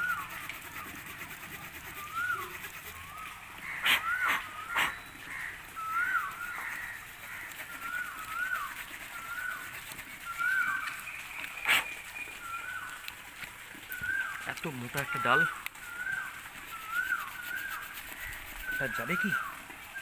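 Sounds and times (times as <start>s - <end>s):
bird calling: 0.0s - 20.0s
small saw scraping through wood: 0.0s - 20.0s.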